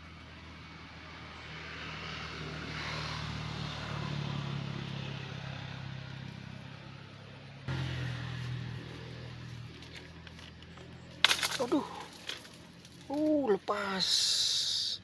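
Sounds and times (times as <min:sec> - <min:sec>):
motor engine droning: 0:00.0 - 0:13.6.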